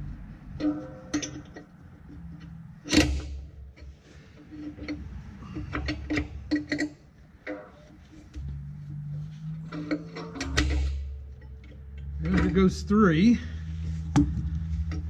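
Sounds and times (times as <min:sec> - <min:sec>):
metal spring clicks and clanks: 0:00.0 - 0:15.0.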